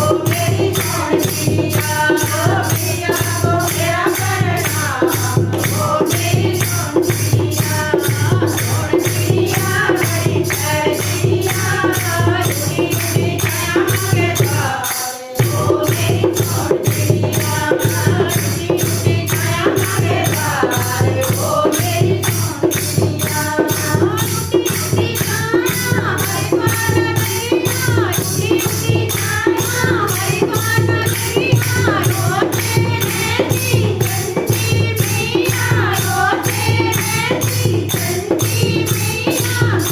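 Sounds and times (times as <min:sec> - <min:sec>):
group singing devotional song: 0:00.0 - 0:39.9
jingling percussion: 0:00.0 - 0:39.9.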